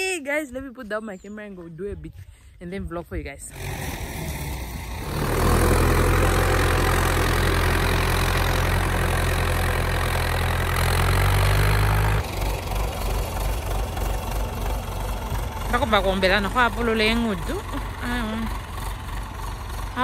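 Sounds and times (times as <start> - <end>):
tractor engine running: 3.5 - 20.0.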